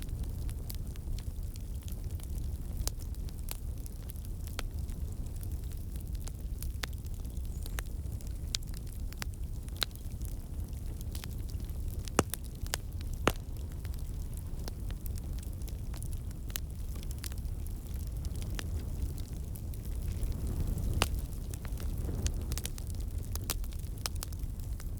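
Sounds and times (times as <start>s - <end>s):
fireplace fire crackling: 0.0s - 24.9s.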